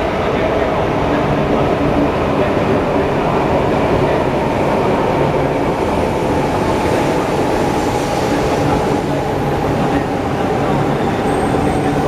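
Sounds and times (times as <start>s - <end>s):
train rumbling with low hum: 0.0s - 12.0s.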